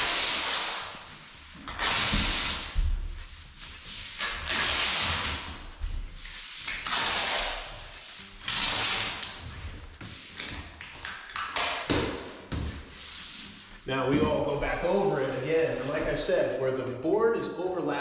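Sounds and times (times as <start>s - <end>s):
tape rubbed down scraping swipes: 0.0s - 16.4s.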